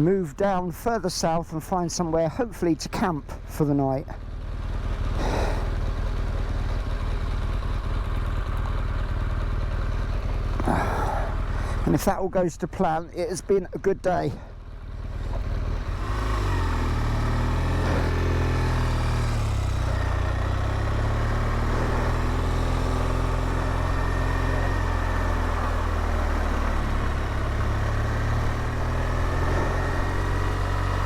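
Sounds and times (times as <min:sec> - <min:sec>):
road and wind noise: 0:00.0 - 0:31.0
motorcycle engine running: 0:02.3 - 0:12.1, 0:13.3 - 0:31.0.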